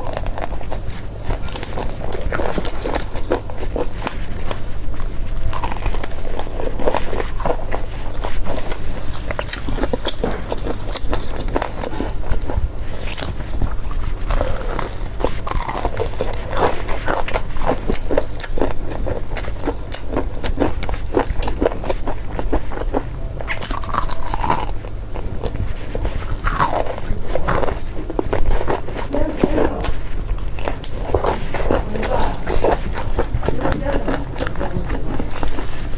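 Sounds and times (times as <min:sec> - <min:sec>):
crunchy bites and chewing: 0:00.0 - 0:35.9.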